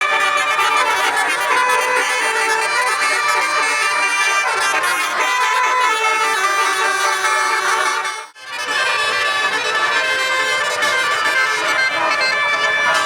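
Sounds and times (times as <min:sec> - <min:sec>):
bus air horns multi-tone tunes: 0:00.0 - 0:13.0.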